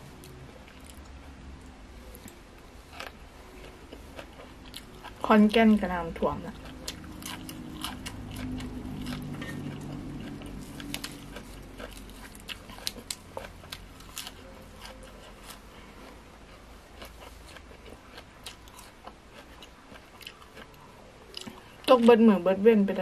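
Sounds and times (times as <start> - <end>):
chewing crisp salad: 0.0 - 22.2.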